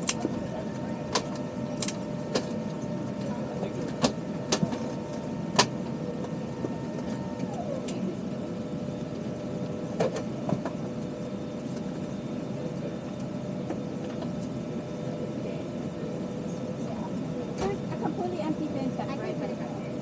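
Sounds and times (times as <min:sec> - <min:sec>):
aircraft cabin ventilation hum: 0:00.0 - 0:20.0.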